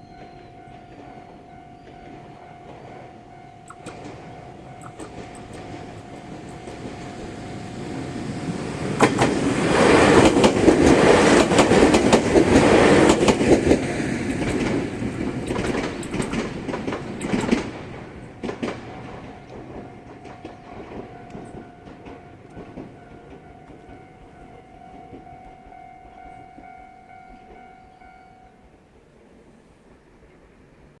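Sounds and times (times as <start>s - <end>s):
level-crossing warning bell: 0.0s - 16.4s, 17.1s - 28.9s
rail-joint clicks: 0.0s - 28.4s
electric train passing: 0.0s - 31.0s.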